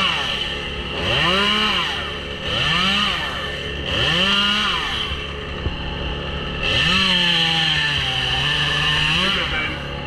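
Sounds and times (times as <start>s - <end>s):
chainsaw engine revving: 0.0s - 10.0s.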